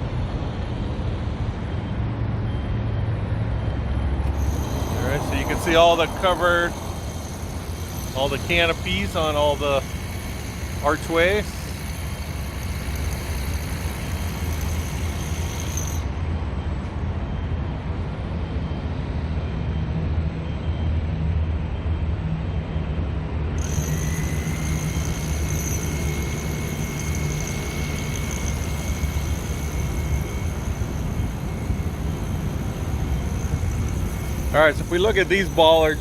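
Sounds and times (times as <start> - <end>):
road traffic rumble: 0.0 - 18.1, 23.4 - 36.0
faint high whine: 0.8 - 36.0.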